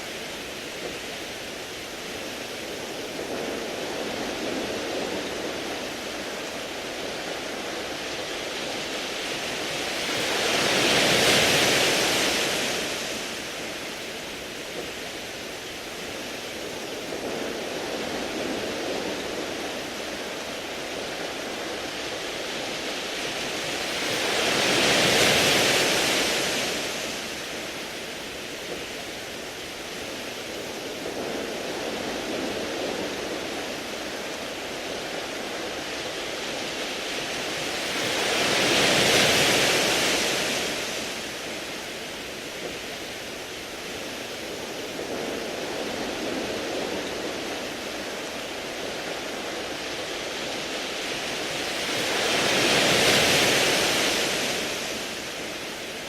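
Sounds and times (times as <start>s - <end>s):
waves washing over pebbles: 0.0s - 56.0s.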